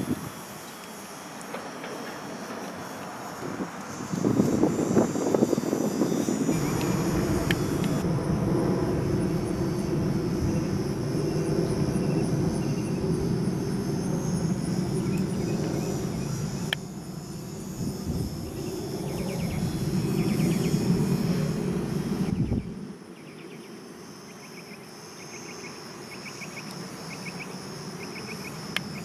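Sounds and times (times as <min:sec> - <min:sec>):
crickets chirping: 0:00.0 - 0:29.0
model plane motor and propeller: 0:00.0 - 0:29.0.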